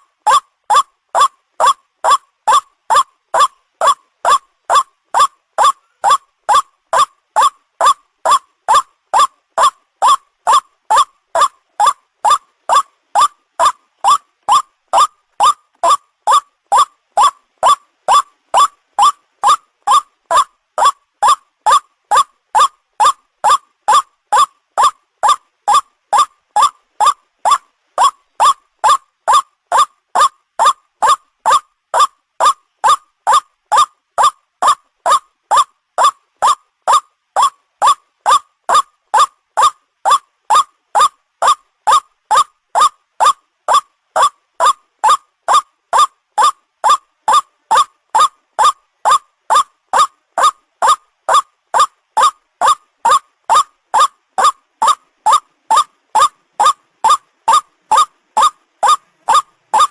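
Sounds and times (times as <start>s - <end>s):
waterhen short rising call: 0.3s - 59.9s.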